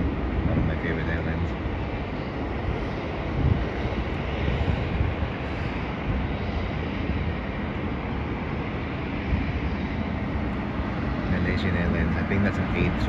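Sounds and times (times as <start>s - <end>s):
distant jet engines rumbling: 0.0s - 13.0s
wind buffeting microphone: 0.0s - 13.0s.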